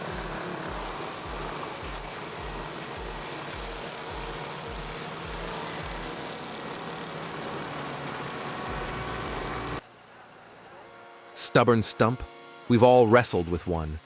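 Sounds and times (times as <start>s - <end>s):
wood chipper running: 0.0s - 14.0s.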